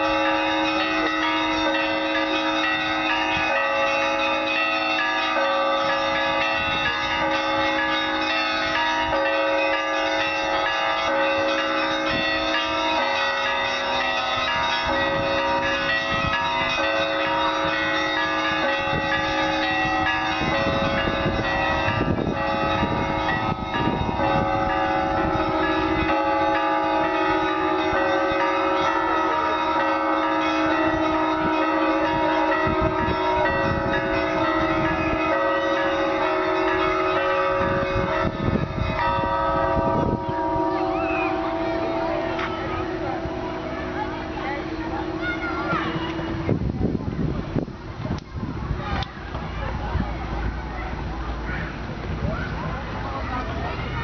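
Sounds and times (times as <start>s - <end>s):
cathedral bells pealing: 0.0s - 46.7s.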